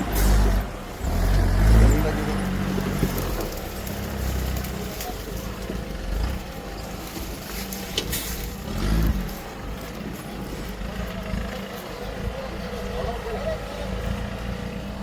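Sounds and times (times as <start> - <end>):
off-road vehicle engine rumbling: 0.0 - 15.0.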